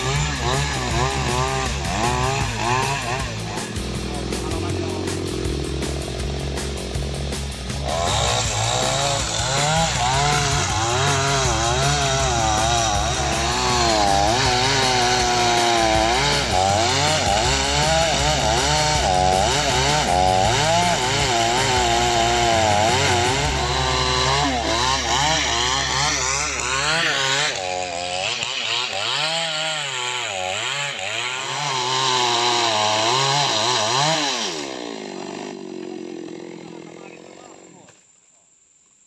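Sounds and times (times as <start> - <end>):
chainsaw cutting wood: 0.0 - 38.0.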